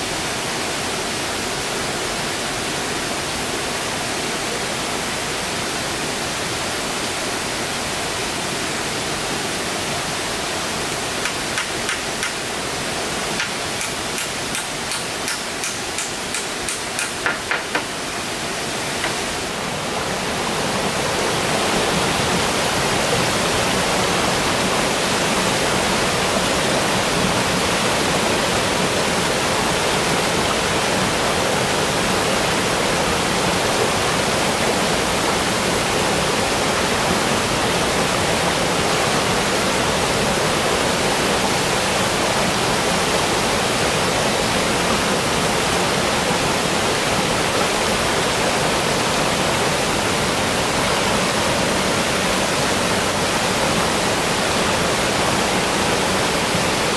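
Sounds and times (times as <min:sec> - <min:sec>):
water rushing: 0:00.0 - 0:56.9.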